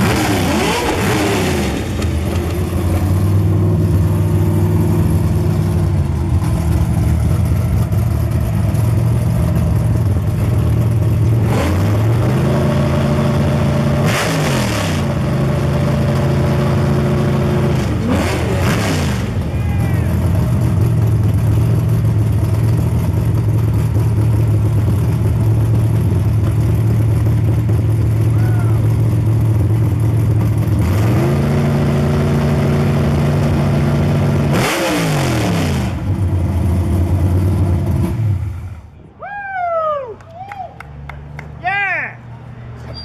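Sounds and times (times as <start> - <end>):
car engine idling and revving: 0.0 - 39.2, 42.2 - 43.0.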